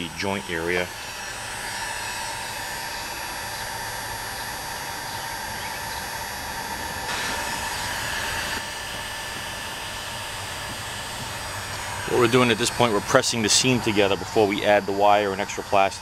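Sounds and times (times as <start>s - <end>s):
heat gun blowing air: 0.0s - 16.0s.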